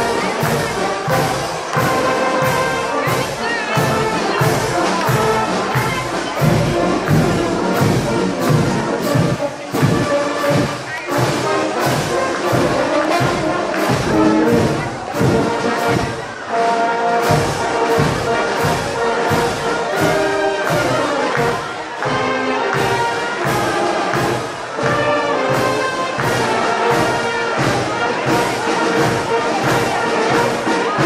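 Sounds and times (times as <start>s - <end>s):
brass band playing march: 0.0s - 31.0s
people clapping along: 0.0s - 31.0s.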